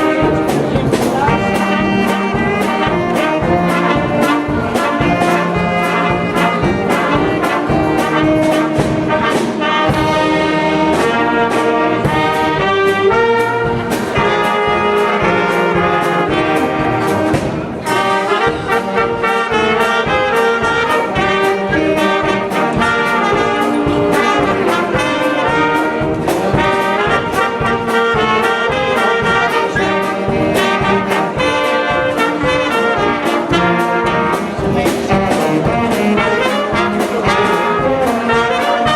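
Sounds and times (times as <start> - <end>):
steady drum beat: 0.0 - 38.9
trombones and trumpets playing: 0.0 - 38.9.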